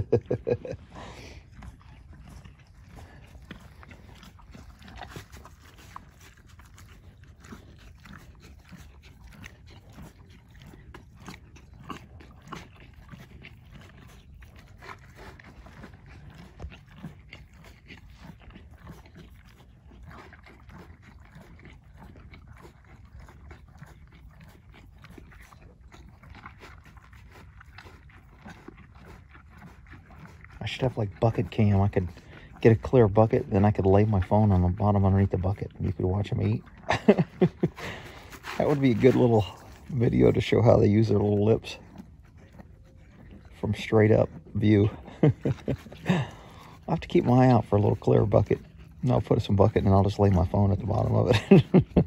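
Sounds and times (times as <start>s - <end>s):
horse crunching and chewing grain: 0.0s - 52.0s.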